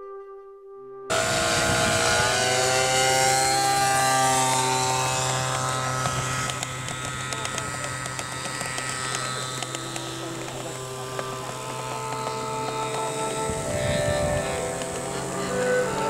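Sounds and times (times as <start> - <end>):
electric motor whine: 1.1 - 16.0
propeller hum: 1.1 - 16.0.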